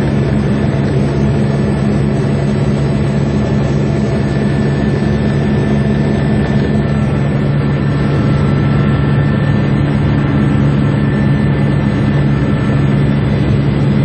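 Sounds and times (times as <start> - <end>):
helicopter drone: 0.0 - 14.0.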